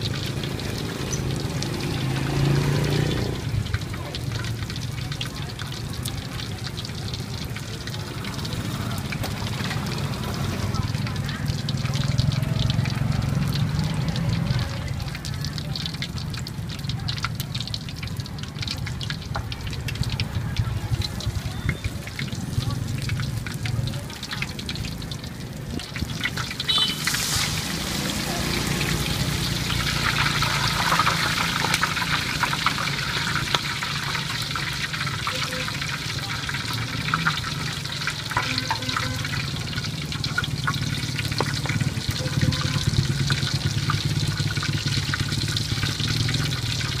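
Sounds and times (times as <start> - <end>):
oil sizzling and crackling: 0.0 - 47.0
metal utensils ticking on pan: 3.6 - 27.0, 29.4 - 47.0.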